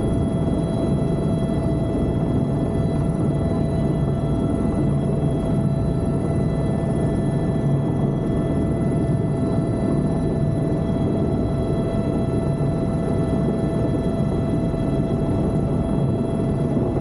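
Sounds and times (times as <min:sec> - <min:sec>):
helicopter rumble: 0:00.0 - 0:17.0
high turbine whine: 0:00.0 - 0:17.0.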